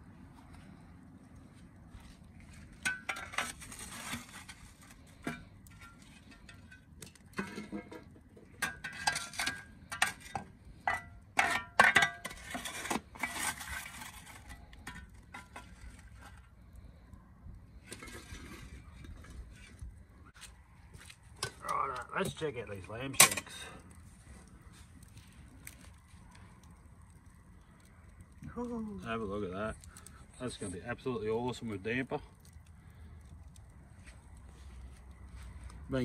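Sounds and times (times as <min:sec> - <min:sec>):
metal shovel scraping coals: 0:00.3 - 0:36.0.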